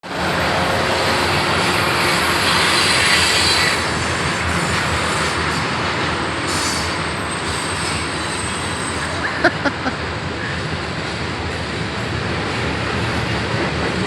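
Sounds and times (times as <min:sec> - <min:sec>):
train passing rumble and hiss: 0:00.0 - 0:14.0.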